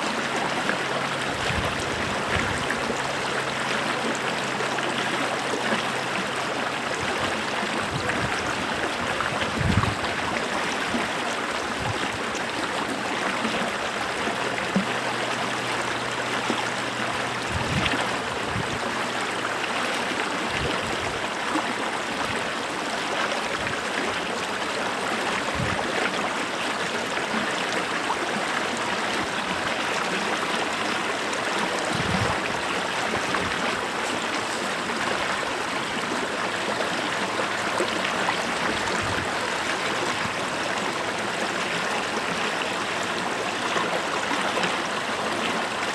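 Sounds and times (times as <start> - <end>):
low water gurgles: 0.0 - 45.9
stream rushing over rocks: 0.0 - 45.9.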